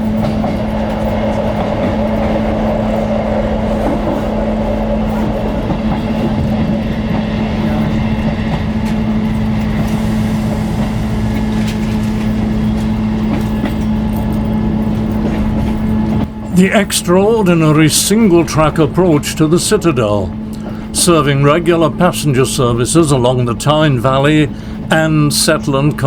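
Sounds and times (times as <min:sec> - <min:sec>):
train running on track: 0:00.0 - 0:26.0
wheels clicking on rails: 0:00.0 - 0:26.0.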